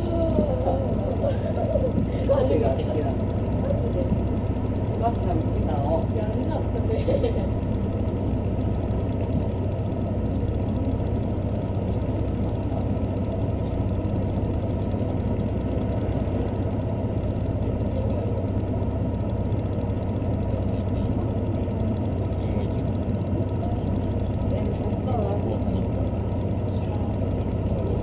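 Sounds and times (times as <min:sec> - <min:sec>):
train engine hum: 0:00.0 - 0:28.0
train rolling rumble: 0:00.0 - 0:28.0.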